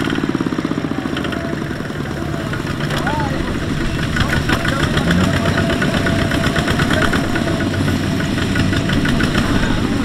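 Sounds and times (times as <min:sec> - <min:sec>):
diesel engine knocking steadily: 0:00.0 - 0:10.0.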